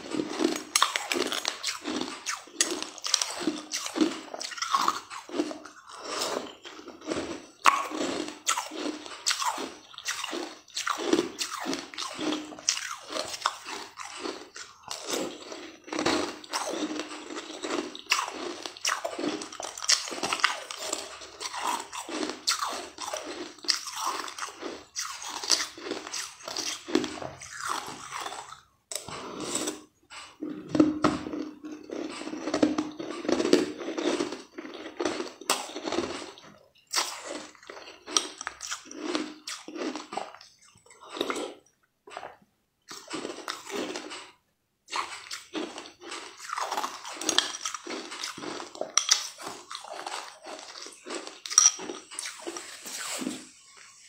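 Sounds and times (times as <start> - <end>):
crisp crunching and chewing: 0.0 - 54.0.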